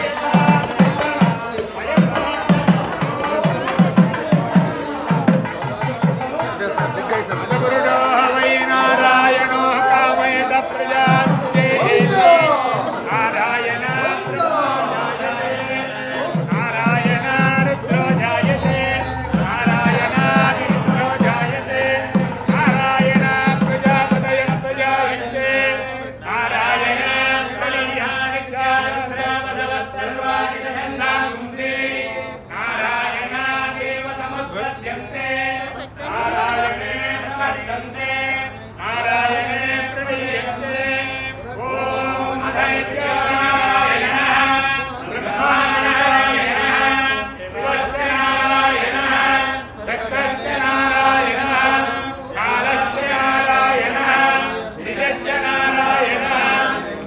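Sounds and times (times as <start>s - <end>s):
voices chanting together: 0.0s - 57.0s.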